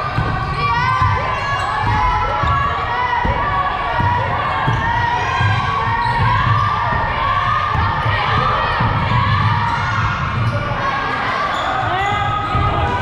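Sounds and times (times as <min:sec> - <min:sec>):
basketball bouncing: 0:00.0 - 0:10.8
voices in a gym: 0:00.0 - 0:13.0.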